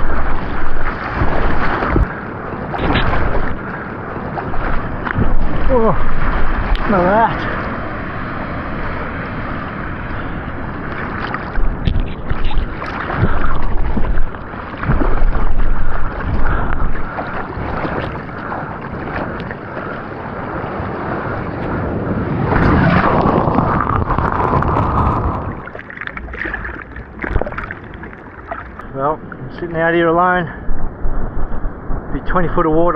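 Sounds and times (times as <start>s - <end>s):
water sloshing and rushing: 0.0s - 32.4s
wind buffeting microphone: 0.0s - 32.9s.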